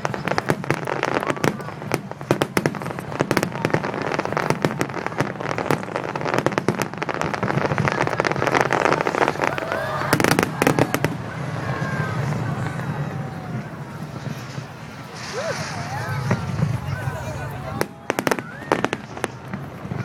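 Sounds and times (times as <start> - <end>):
fireworks crackles and pops: 0.0 - 20.0
loud fireworks bangs: 0.0 - 20.0.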